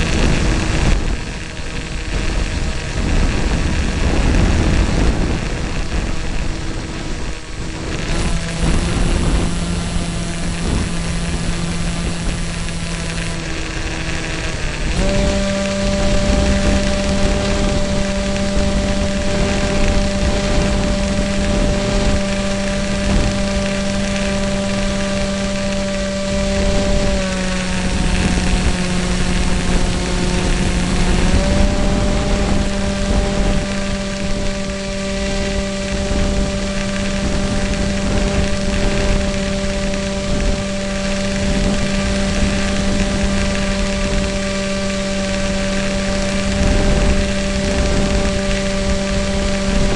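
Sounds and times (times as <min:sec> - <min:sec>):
electric model plane motor droning: 0:00.0 - 0:49.9
wind rush: 0:00.0 - 0:49.9.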